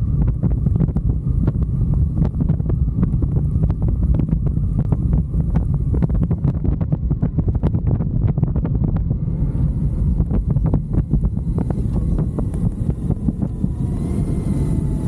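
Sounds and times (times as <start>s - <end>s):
motorcycle engine rumble: 0.0s - 15.0s
wind buffeting microphone: 0.0s - 15.0s.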